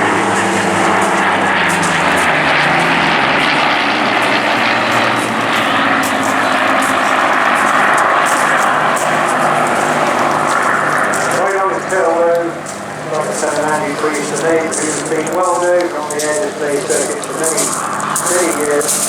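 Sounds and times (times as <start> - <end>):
propeller aircraft engines flying past: 0.0 - 19.0.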